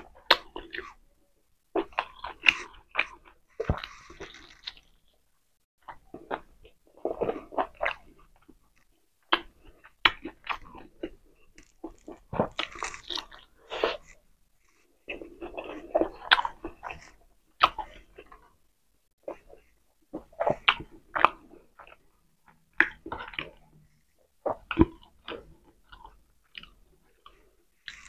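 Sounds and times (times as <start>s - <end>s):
person chewing food: 0.0s - 1.0s, 1.7s - 28.0s.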